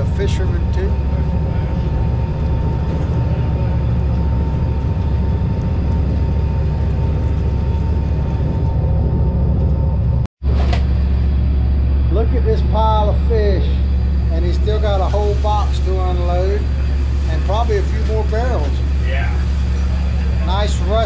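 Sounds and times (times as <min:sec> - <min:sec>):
boat engine droning: 0:00.0 - 0:21.0
faint steady whine: 0:00.0 - 0:21.0.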